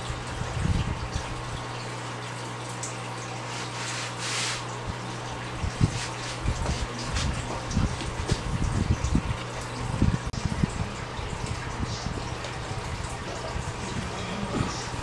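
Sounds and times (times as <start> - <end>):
steady low hum: 0.0 - 15.0
water splashing and dripping: 0.0 - 15.0.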